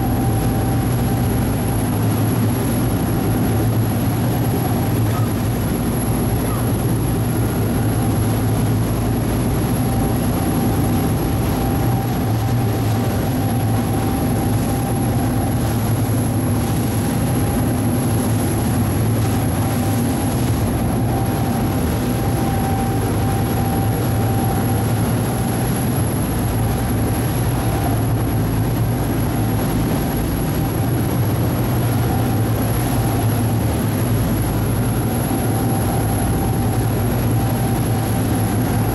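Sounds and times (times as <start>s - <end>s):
faint steady whine: 0.0s - 38.9s
ferry engine deep drone: 0.0s - 38.9s.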